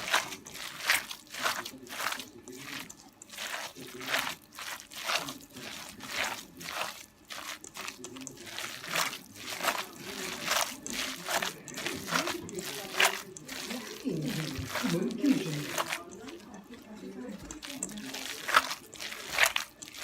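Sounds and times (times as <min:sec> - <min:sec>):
moist crunching strokes: 0:00.0 - 0:20.0.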